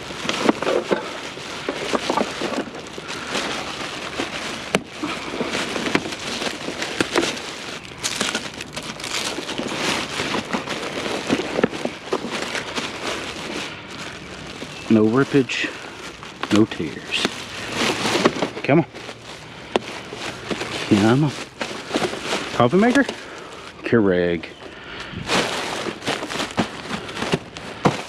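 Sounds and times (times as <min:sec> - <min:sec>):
items clicking inside bag: 0:00.0 - 0:23.7
plastic bag rustling: 0:00.0 - 0:28.0.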